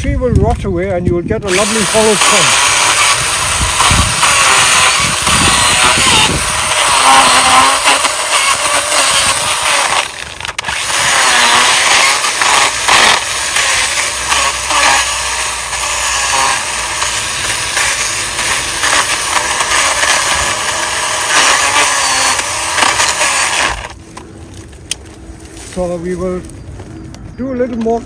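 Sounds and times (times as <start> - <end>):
chainsaw cutting wood: 1.5 - 24.0.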